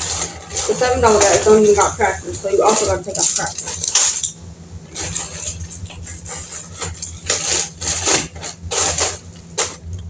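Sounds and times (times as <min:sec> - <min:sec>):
plastic wrappers crinkling: 0:00.0 - 0:10.0
steady low hum: 0:00.0 - 0:10.0.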